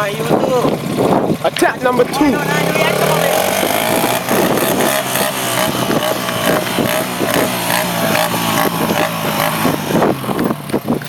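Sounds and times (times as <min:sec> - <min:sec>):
small motorcycle engine revving: 0:00.0 - 0:11.0.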